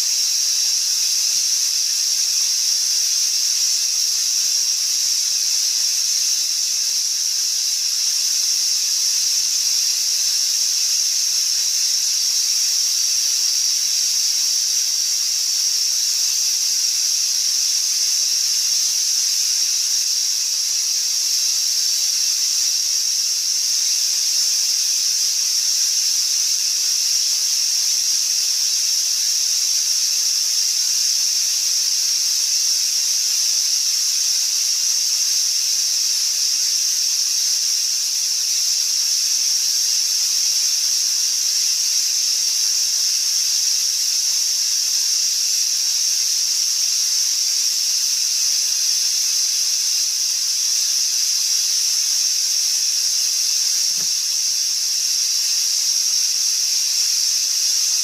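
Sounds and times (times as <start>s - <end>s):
high-pitched static hiss: 0.0s - 58.0s.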